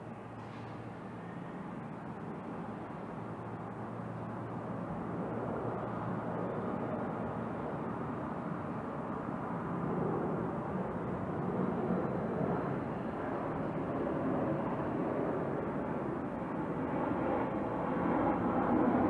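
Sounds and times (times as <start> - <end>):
jet airliner flying overhead: 0.0 - 19.0.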